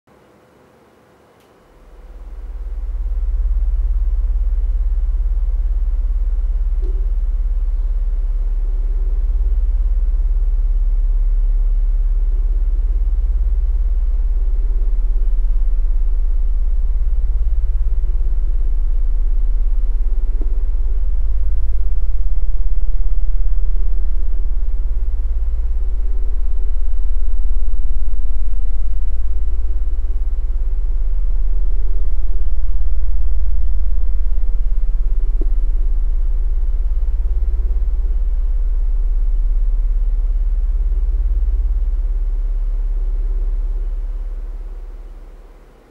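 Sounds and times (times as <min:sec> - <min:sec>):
faint higher hum: 0:00.1 - 0:45.9
deep low-frequency rumbling hum: 0:01.7 - 0:45.9.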